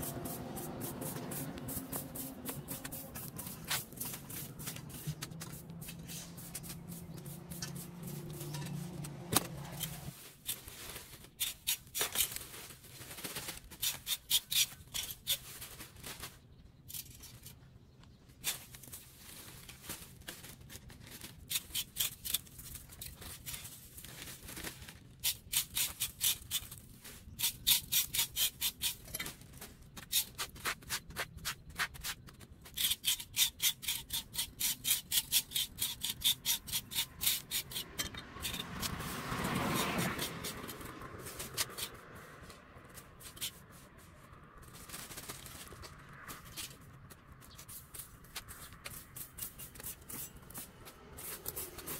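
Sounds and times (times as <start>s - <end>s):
broom scraping leaves on concrete: 0.0s - 16.4s, 18.4s - 46.8s, 47.4s - 51.9s.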